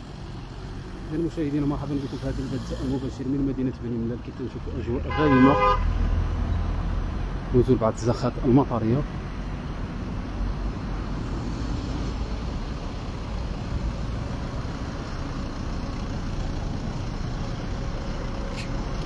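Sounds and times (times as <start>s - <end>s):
rumble of passing cars: 0.0s - 19.0s.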